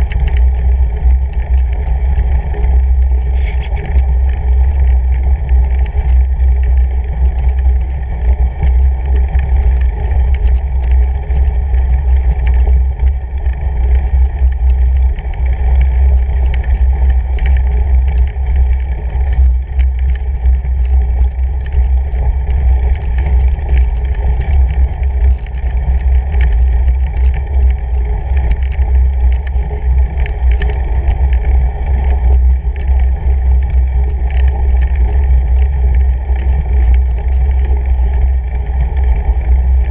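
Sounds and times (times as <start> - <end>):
bike tyres rumbling over snow: 0.0 - 39.9
faint ticks: 0.0 - 39.9.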